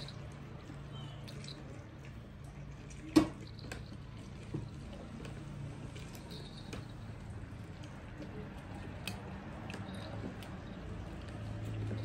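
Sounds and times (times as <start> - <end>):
citrus juicer squeezing: 0.0 - 12.0
juice squelching and dripping: 0.0 - 12.0.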